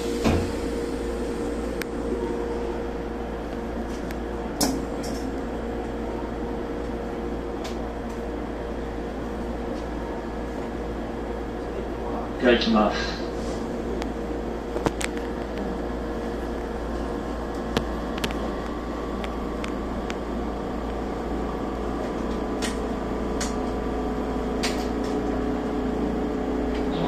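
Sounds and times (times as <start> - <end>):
train equipment and ventilation hum: 0.0 - 27.0.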